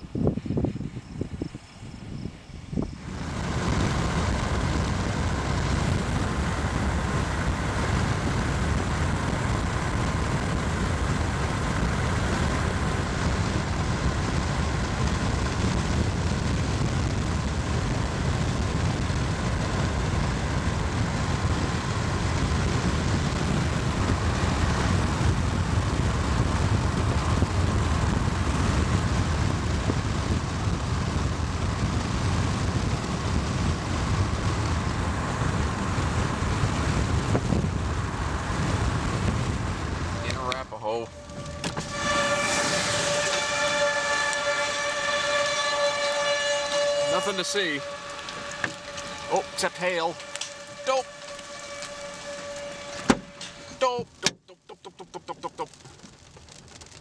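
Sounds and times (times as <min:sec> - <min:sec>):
car road and wind noise: 0:00.0 - 0:54.6, 0:55.2 - 0:57.0.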